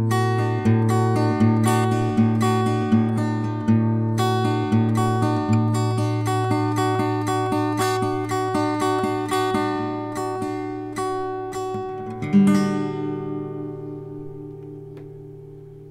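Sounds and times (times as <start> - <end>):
acoustic guitar playing: 0.0 - 15.9.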